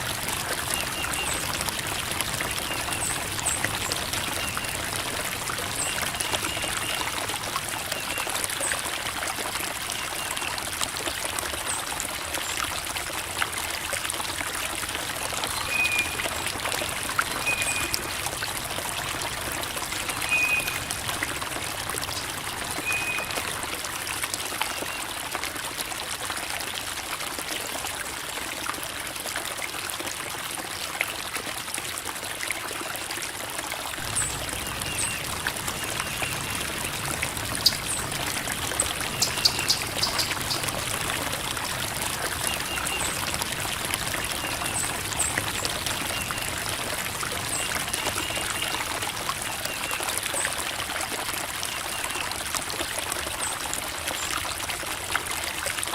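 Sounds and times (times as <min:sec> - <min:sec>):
creek water babbling over rocks: 0:00.0 - 0:55.9.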